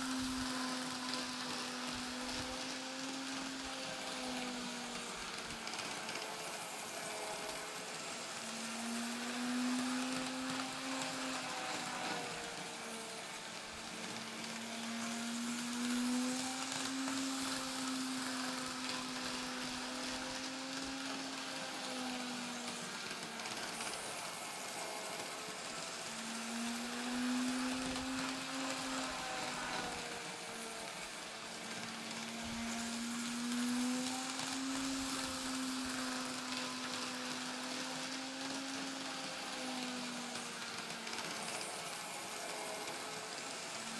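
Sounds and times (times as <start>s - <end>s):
small electric motor whining: 0.0s - 43.9s
wheels hissing on track: 0.0s - 43.9s.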